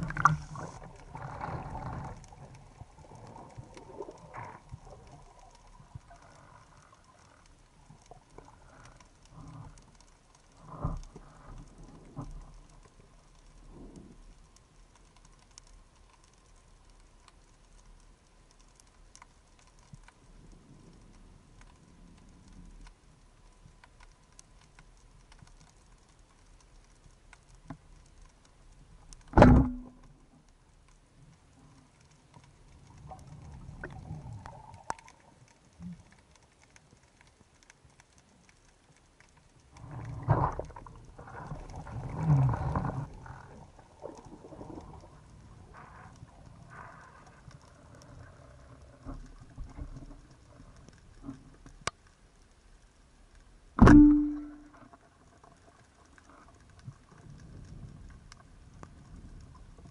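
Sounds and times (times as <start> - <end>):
faint underwater clicking crackle: 0.0 - 59.9.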